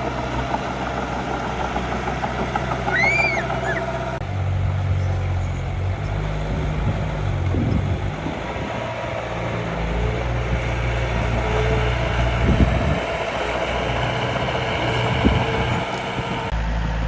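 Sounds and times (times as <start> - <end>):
miniature engine idling: 0.0 - 17.0.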